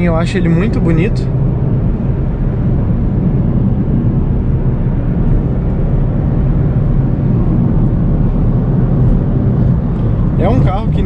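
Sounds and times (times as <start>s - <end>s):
car engine and tyre drone: 0.0s - 11.0s.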